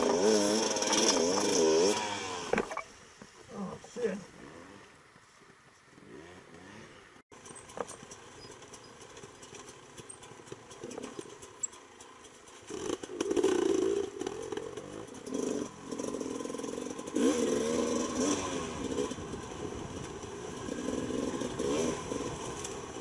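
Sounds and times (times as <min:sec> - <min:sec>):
two-stroke motorcycle engine revving: 0:00.0 - 0:02.7, 0:06.0 - 0:23.0.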